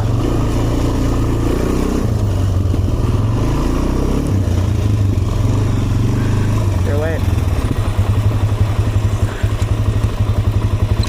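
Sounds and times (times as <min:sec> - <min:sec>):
quad engine idling: 0:00.0 - 0:11.0.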